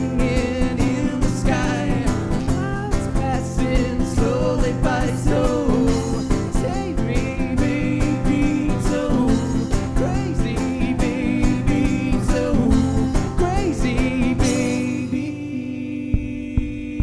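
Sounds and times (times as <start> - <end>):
live country-pop instrumental: 0.0 - 17.0.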